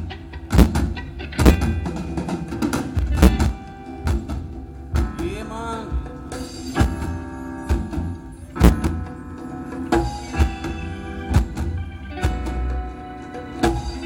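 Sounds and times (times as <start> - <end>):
drum strokes: 0.0 - 13.0
reggae band playing: 0.0 - 14.0.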